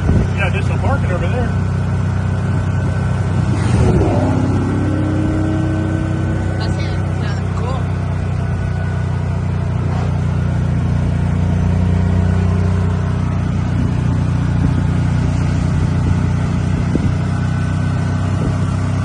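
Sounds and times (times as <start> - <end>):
engine and road drone: 0.0 - 19.0.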